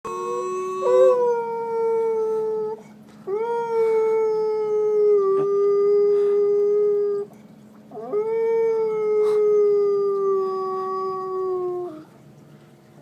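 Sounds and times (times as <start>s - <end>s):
dog howling: 0.1s - 7.3s, 7.9s - 12.1s.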